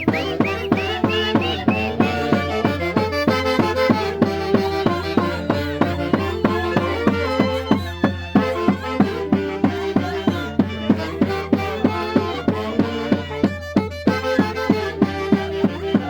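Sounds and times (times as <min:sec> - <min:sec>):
steady drum beat: 0:00.0 - 0:14.2
violins playing melody: 0:00.0 - 0:16.0.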